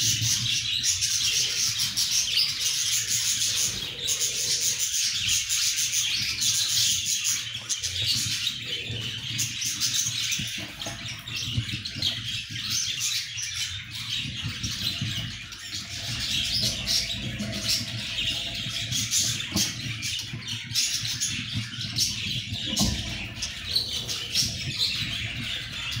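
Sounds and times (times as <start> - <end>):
budgerigars chirping: 0.0 - 26.0.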